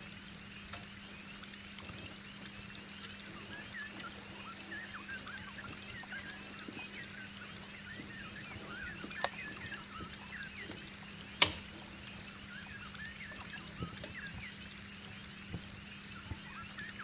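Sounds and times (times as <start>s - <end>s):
rain dripping: 0.0s - 17.0s
steady hiss: 0.0s - 17.0s
wood fire crackling: 0.0s - 17.0s.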